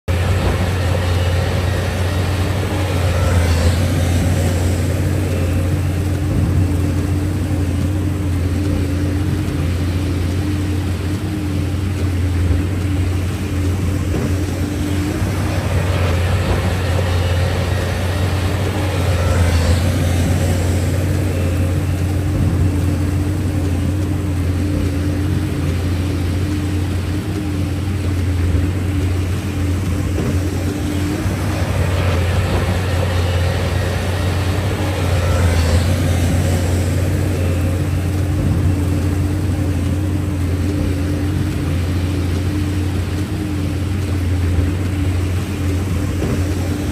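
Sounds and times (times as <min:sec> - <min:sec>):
diesel excavator engine running: 0:00.0 - 0:46.9
meltwater flowing: 0:00.0 - 0:46.9.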